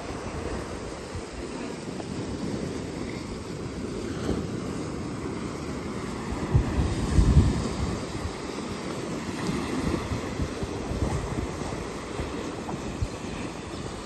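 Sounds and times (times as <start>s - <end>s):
surf breaking on rocky shore: 0.0s - 14.0s
wind rumbling on microphone: 0.0s - 14.0s.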